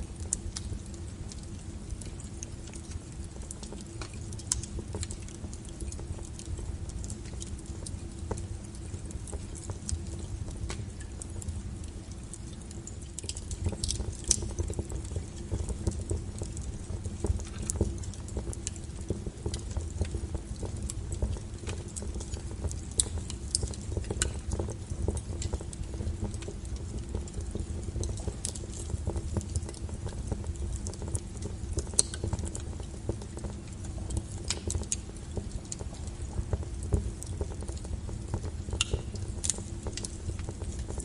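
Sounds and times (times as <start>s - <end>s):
firewood crackling and popping: 0.0s - 41.0s
wood fire burning: 0.0s - 41.0s.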